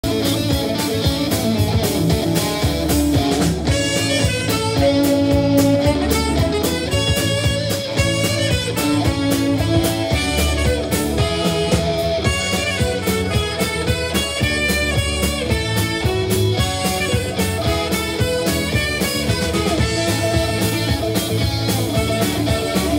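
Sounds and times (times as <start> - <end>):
electric bass: 0.0 - 22.9
steady drum beat: 0.0 - 22.9
saxophone holding long notes: 3.6 - 22.9.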